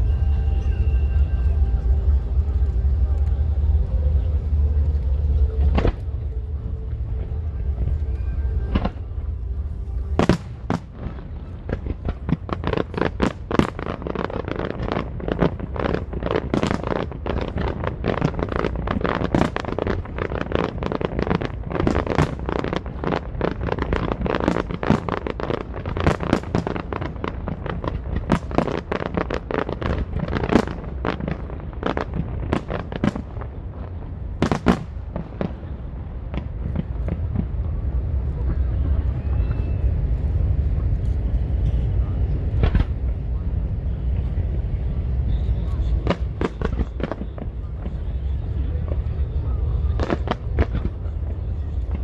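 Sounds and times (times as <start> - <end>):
fireworks booms: 0.0 - 52.0
fireworks bursts and crackling: 0.0 - 52.0.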